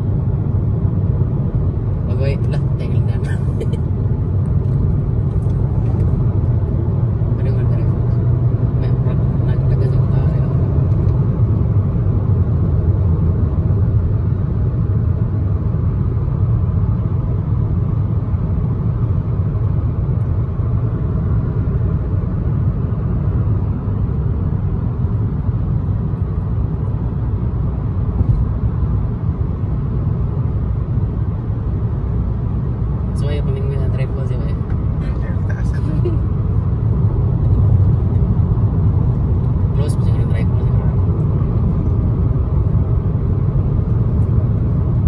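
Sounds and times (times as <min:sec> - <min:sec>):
car driving on highway: 0:00.0 - 0:45.0.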